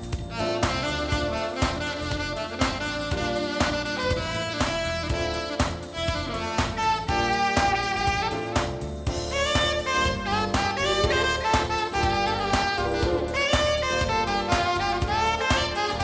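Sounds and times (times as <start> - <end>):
drum kit beat: 0.0 - 16.0
jazz horn melody: 0.0 - 16.0.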